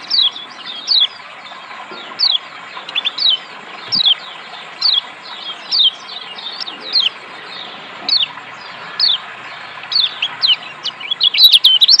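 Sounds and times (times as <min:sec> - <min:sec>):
bird chirping: 0:00.0 - 0:12.0
rushing water: 0:00.0 - 0:12.0.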